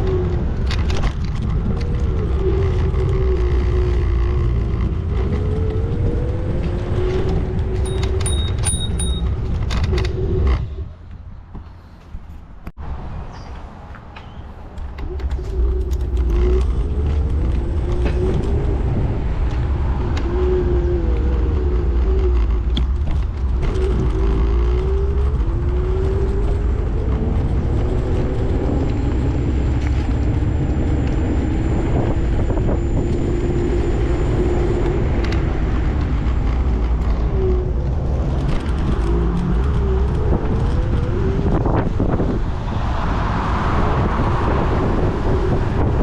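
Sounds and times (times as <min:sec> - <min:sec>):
wind and road noise rumble: 0:00.0 - 0:46.0.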